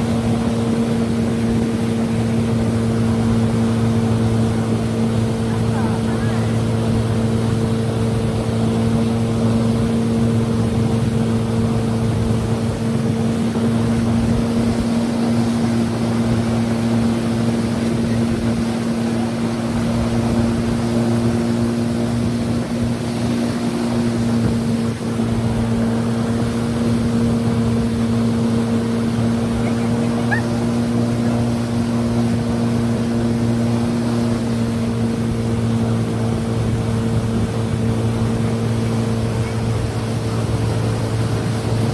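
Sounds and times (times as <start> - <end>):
motorboat engine running: 0.0 - 41.9
rush of wind and water: 0.0 - 41.9.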